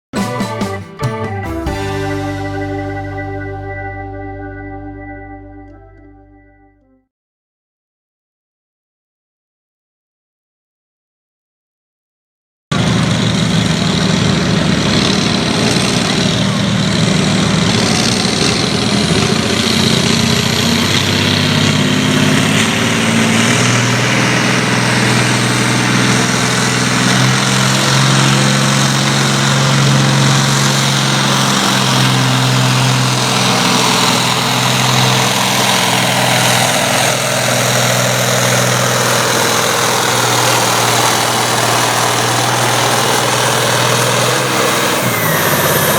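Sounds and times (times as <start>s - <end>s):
tractor engine running: 0.1s - 6.8s, 12.7s - 45.9s.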